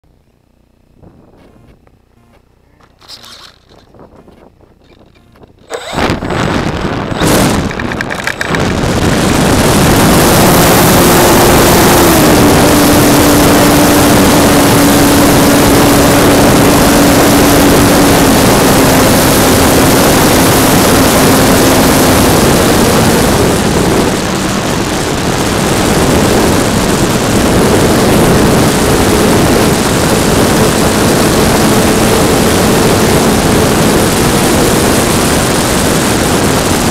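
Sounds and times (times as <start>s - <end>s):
model plane propeller motor: 0.1s - 36.9s
wind rushing over microphone: 0.9s - 1.9s, 2.6s - 36.9s.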